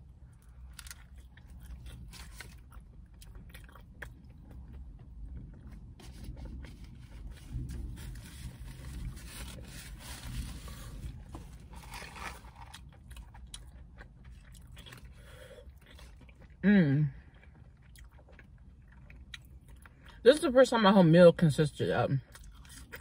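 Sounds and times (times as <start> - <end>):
chewing and crunching: 0.0 - 20.2, 22.2 - 23.0.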